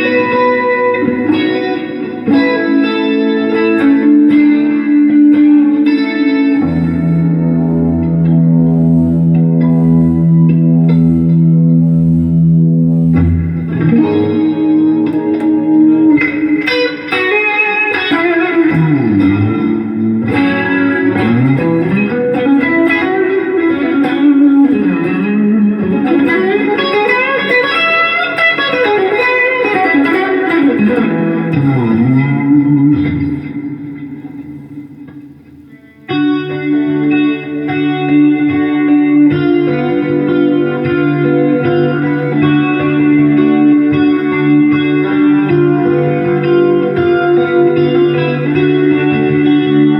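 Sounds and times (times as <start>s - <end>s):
electric guitar through amplifier: 0.0s - 49.9s.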